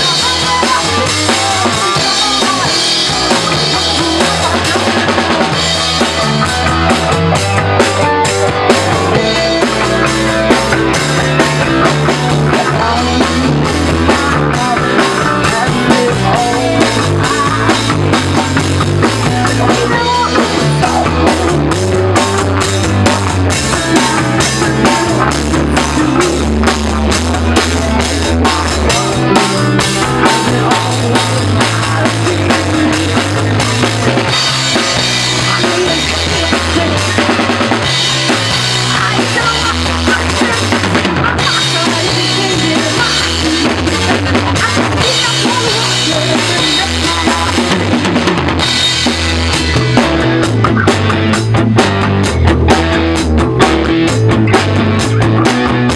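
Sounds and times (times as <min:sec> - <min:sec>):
drum kit with cymbals: 0:00.0 - 0:55.9
electric guitars: 0:00.0 - 0:55.9
low bass line: 0:00.0 - 0:55.9.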